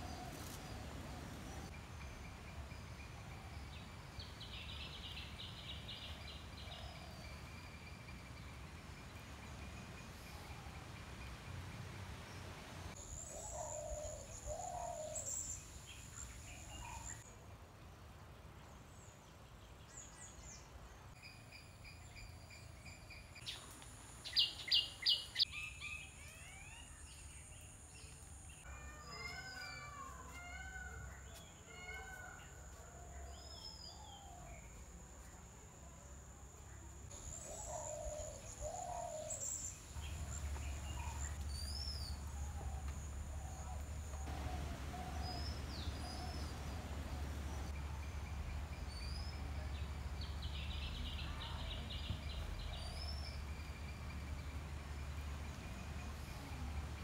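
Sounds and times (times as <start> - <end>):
wild birds chirping: 0.0 - 35.3, 36.9 - 57.0.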